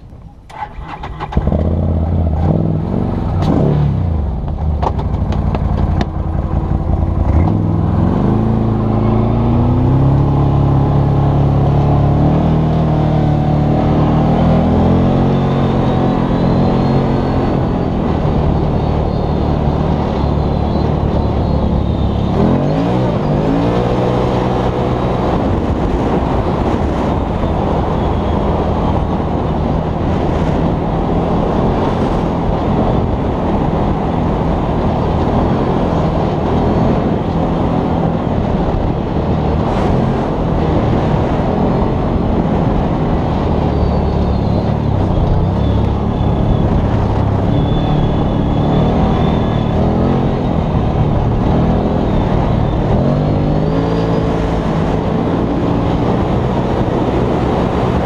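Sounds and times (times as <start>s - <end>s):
engine accelerating hard: 0.0s - 58.0s.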